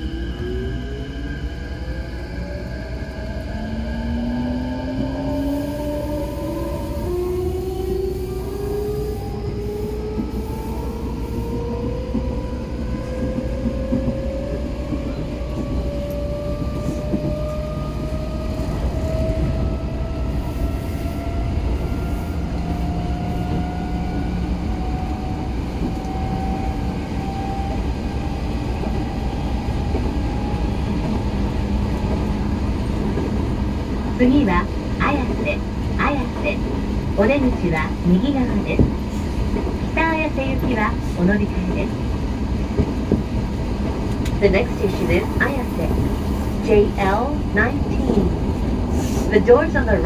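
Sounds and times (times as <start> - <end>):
wheels rumbling on rail: 0.0 - 50.0.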